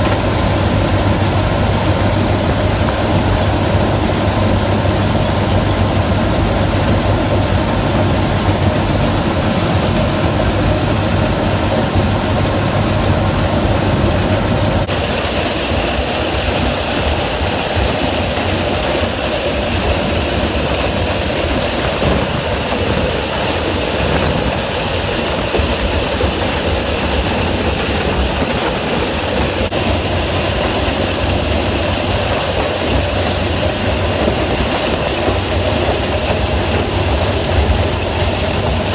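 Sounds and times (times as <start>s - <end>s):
diesel engines of farm machinery: 0.0s - 38.9s.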